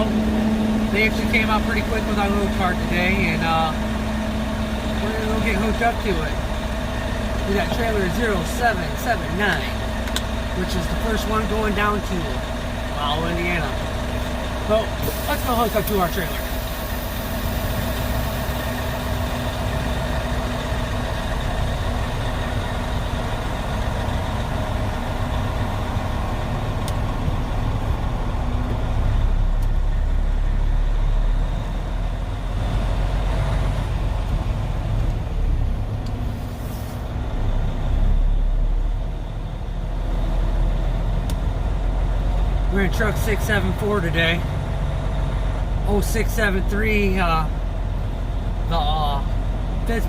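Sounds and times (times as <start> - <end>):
truck diesel engine rumbling: 0.0 - 50.0.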